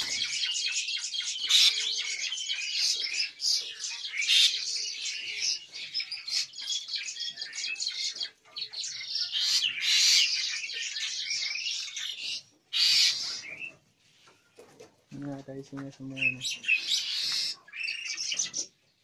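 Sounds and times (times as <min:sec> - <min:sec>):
starlings chirping and calling: 0:00.0 - 0:14.3, 0:15.2 - 0:19.0.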